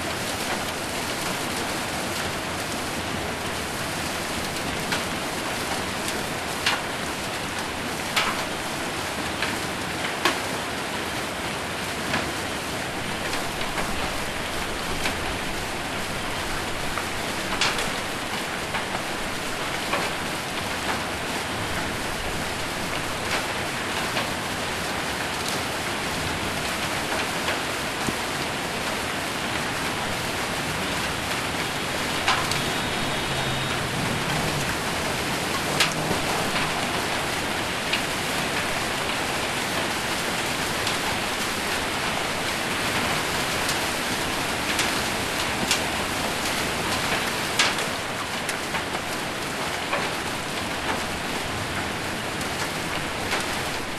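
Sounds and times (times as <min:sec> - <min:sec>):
hail hitting a roof: 0:00.0 - 0:53.9
heavy rain on a roof: 0:00.0 - 0:53.9.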